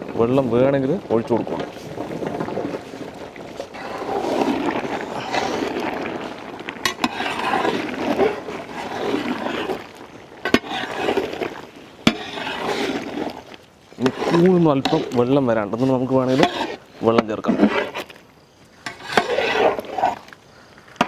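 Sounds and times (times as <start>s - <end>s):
metal ladle stirring gravy in pot: 1.4s - 18.2s, 18.8s - 20.4s.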